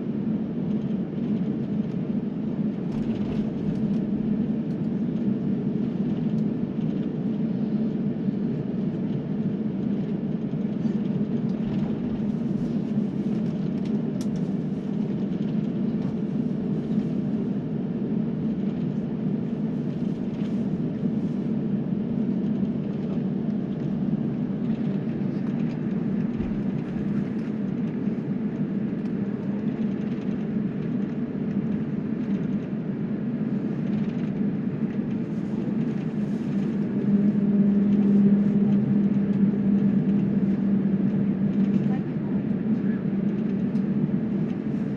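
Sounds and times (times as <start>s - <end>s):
airliner cabin drone: 0.0s - 44.9s.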